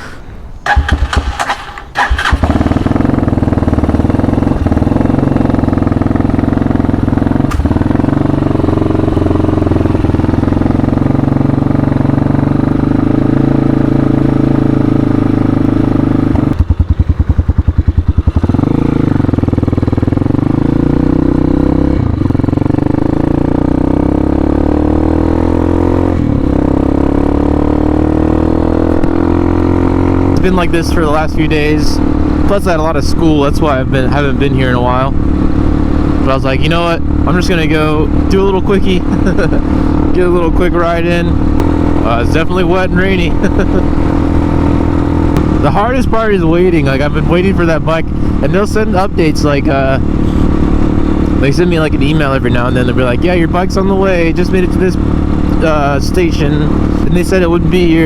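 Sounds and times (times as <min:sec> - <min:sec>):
motorcycle engine running: 0:00.6 - 0:58.0.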